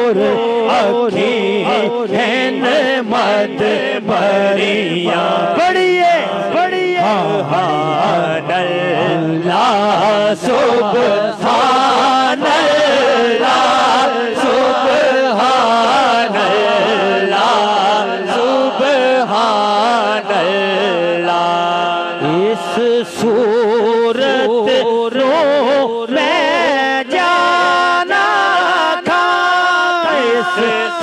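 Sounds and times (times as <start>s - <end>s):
men singing devotional song: 0.0s - 31.0s.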